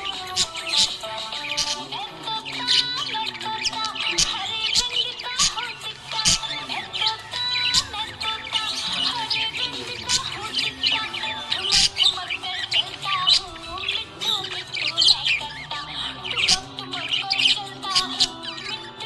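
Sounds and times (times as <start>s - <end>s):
background music: 0.0s - 19.0s
parrots chirping and chattering: 0.0s - 19.0s.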